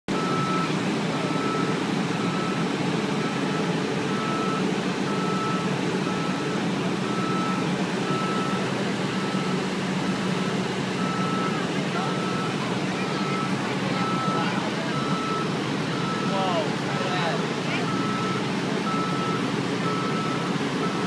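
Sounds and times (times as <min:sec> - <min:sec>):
heavy vehicle engines running: 0:00.1 - 0:21.0
reversing alarm beeping: 0:00.1 - 0:21.0.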